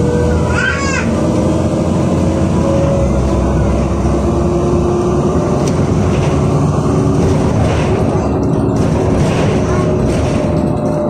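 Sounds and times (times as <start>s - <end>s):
bus engine low hum: 0.0s - 11.0s
road noise: 0.0s - 11.0s.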